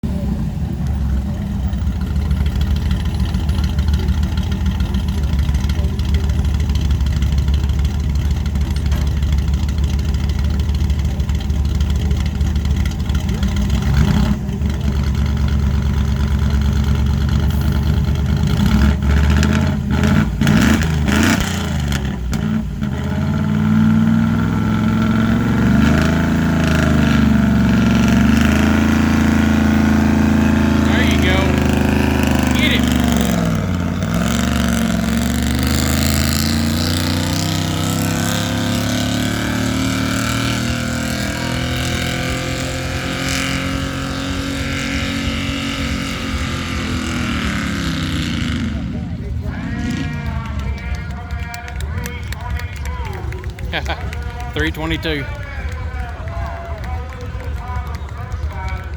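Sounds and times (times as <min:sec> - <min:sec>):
truck engine running hard: 0:00.0 - 0:58.9
engine knocks: 0:00.7 - 0:58.9.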